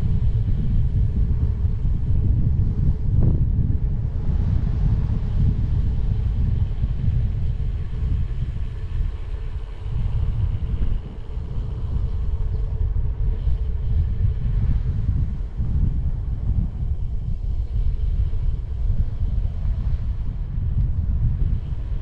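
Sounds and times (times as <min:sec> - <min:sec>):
faint steady hum: 0:00.0 - 0:22.0
wind buffeting microphone: 0:00.0 - 0:22.0.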